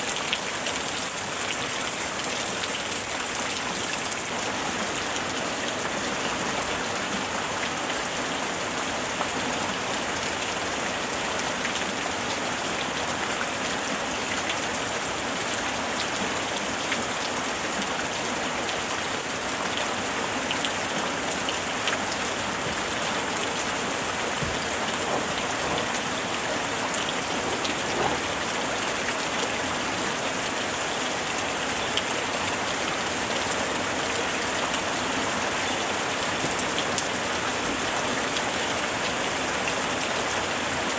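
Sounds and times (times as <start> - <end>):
raindrops ticking on surfaces: 0.0 - 40.9
steady rain hiss: 0.0 - 40.9.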